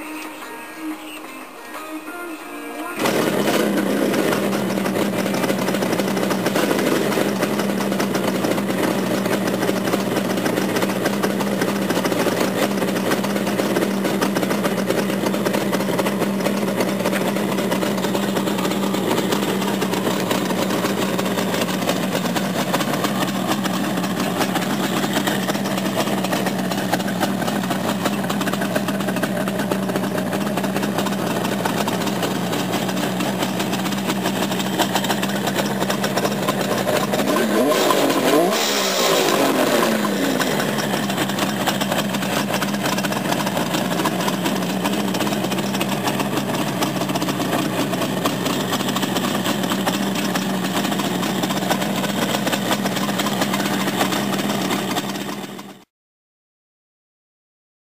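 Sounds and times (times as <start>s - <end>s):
motorcycle engine starting and idling: 0.0s - 55.9s.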